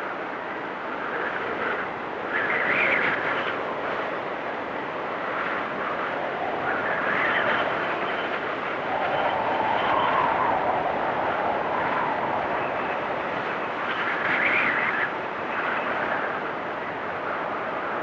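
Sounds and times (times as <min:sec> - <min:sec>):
wind blowing through trees: 0:00.0 - 0:18.0.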